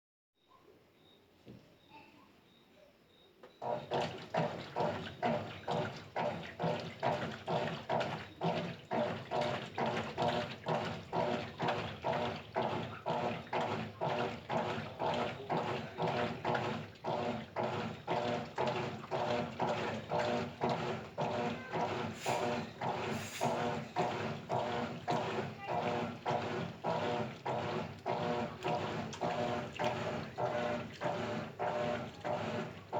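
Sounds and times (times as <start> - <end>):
washing machine sloshing water: 3.6 - 32.9.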